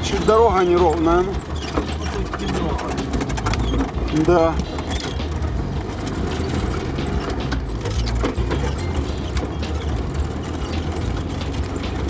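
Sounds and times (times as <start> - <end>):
rattles and knocks from vehicle body: 0.0 - 12.0
vehicle engine running: 0.0 - 12.0.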